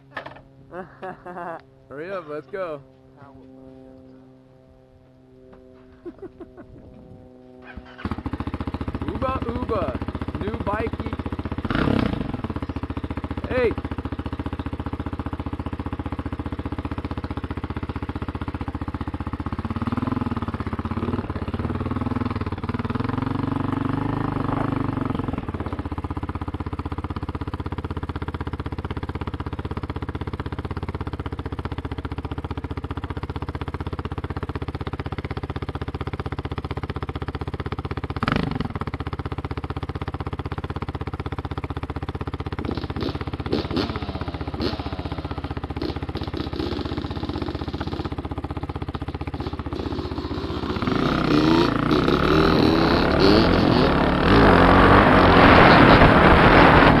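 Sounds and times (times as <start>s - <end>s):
dirt bike engine idling and revving: 0.0s - 57.0s.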